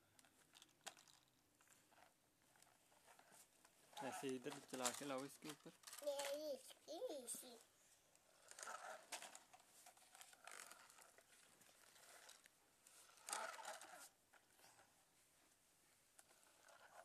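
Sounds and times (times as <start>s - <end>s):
plastic toys rustling: 0.2s - 15.0s, 16.2s - 17.0s.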